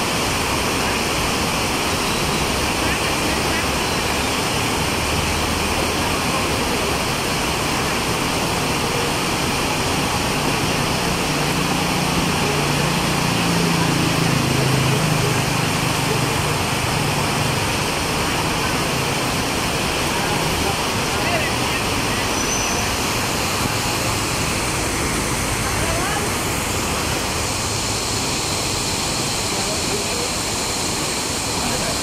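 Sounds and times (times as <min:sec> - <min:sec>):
heavy rain pouring: 0:00.0 - 0:32.0
motorbike engine through water: 0:00.0 - 0:32.0.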